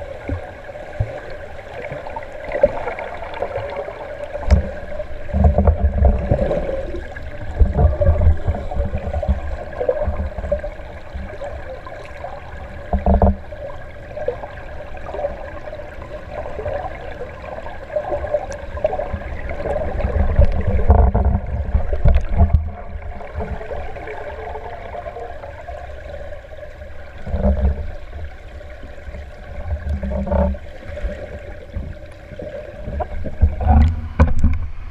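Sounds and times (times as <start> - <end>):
underwater swimming water gurgling: 0.0 - 34.9.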